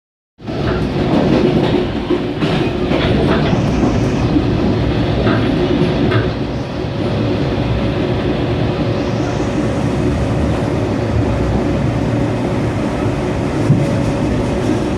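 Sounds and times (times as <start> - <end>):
train rumbling along rails: 0.4 - 14.9.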